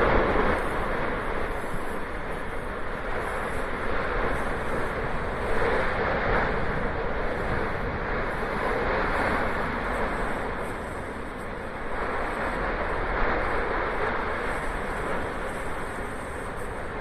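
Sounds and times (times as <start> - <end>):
lava fountain rushing: 0.0 - 17.0.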